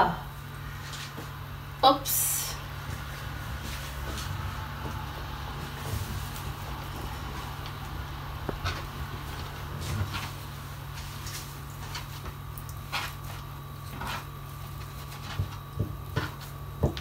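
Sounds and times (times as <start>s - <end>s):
steady low hum: 0.0s - 17.0s
pastry sheets crackling and rustling: 2.9s - 17.0s.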